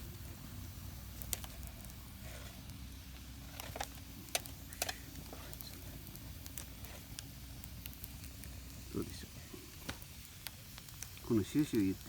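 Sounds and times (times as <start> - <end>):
campfire crackling: 0.0 - 12.0
firewood popping: 0.0 - 12.0.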